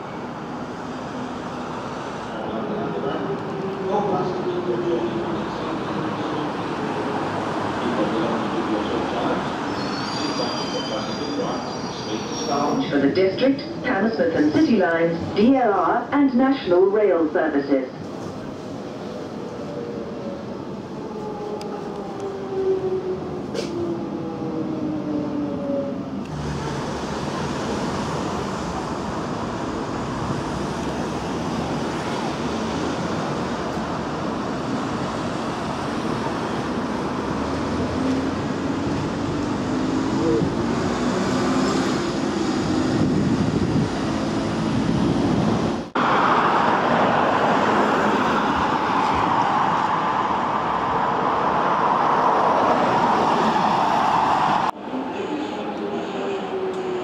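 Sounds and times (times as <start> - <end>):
bus engine passing: 0.0 - 9.7, 18.0 - 57.0
train slowing: 0.0 - 15.5, 18.0 - 57.0
road traffic noise: 0.0 - 57.0.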